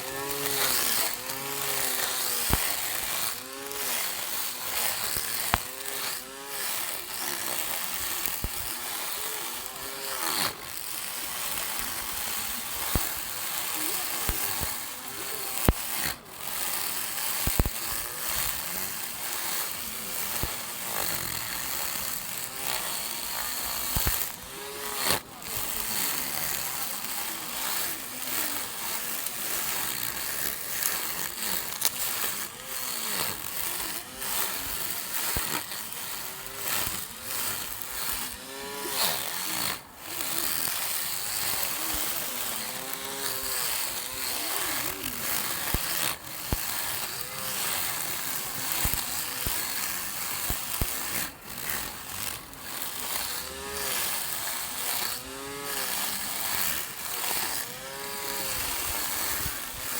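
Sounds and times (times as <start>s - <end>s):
lawn mower motor cutting grass: 0.0s - 59.9s.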